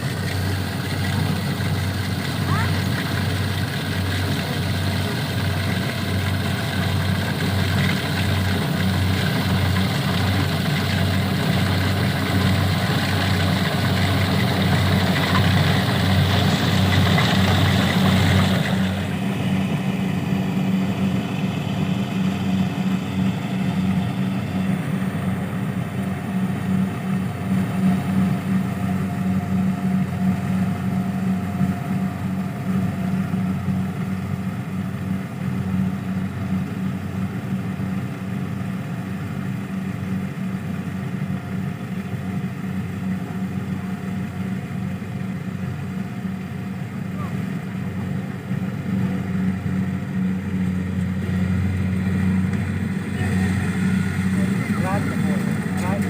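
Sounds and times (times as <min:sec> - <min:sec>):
harvester engine running: 0:00.0 - 0:56.0.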